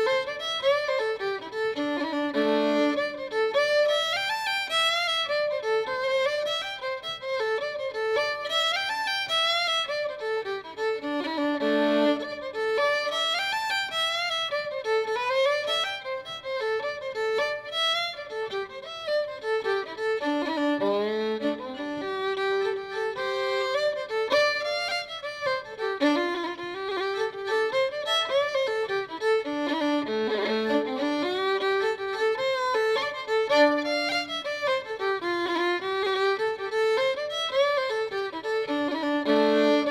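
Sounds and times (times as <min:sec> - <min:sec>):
violin playing quick notes: 0:00.0 - 0:39.9.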